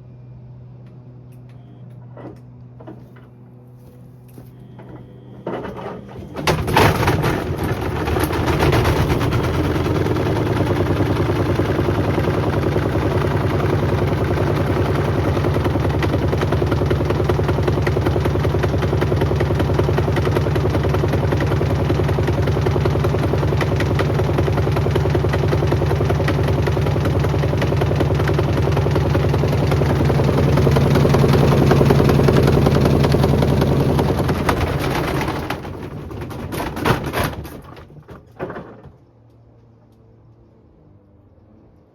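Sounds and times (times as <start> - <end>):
washing machine motor humming: 4.3 - 37.8.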